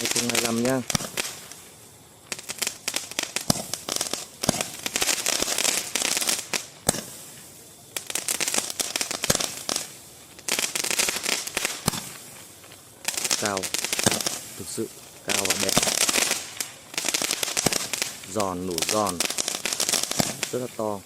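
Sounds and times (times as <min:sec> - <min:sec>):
firework crackling pops: 0:00.0 - 0:21.0
loud firework cracks: 0:00.0 - 0:21.0.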